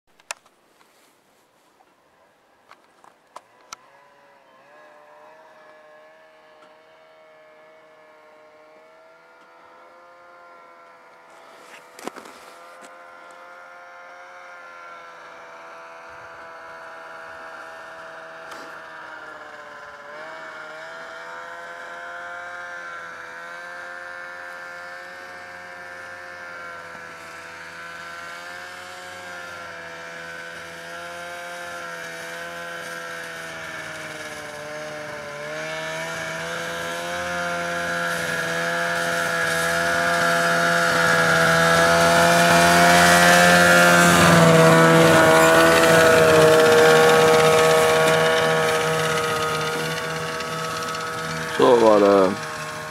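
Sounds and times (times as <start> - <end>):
snowmobile engine droning: 3.4 - 52.9.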